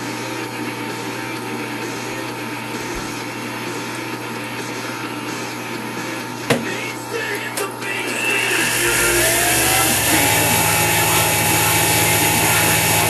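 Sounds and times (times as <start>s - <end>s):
milling machine humming: 0.0s - 13.0s.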